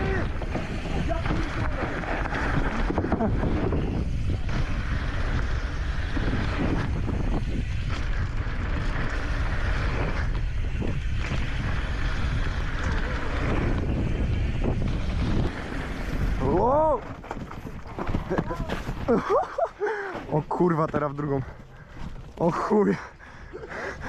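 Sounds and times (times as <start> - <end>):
wind buffeting microphone: 0.0 - 19.5
tyres rolling on gravel trail: 0.0 - 24.0.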